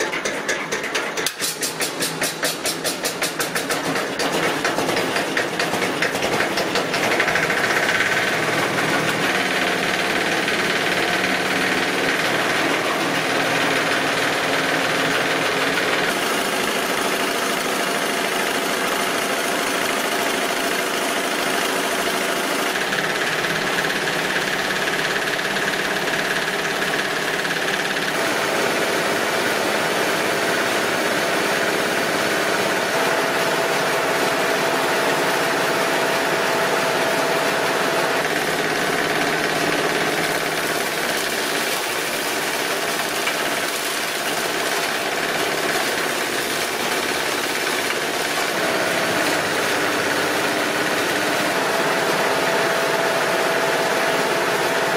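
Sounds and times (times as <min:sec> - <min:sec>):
diesel engine starting and running: 0:00.0 - 0:54.9.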